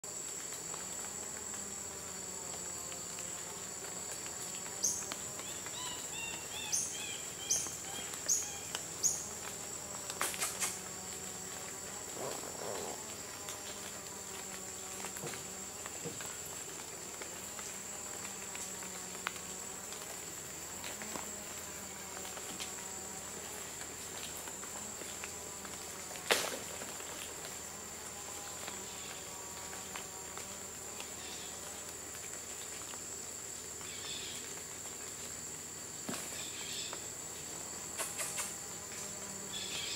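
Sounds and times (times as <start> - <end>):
insects droning high-pitched: 0.0 - 39.9.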